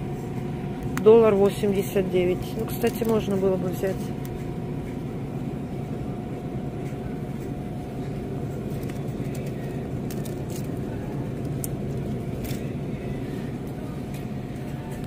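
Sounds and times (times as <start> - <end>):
faint steady whine: 0.0 - 15.0
refrigeration machinery hum: 0.0 - 15.0.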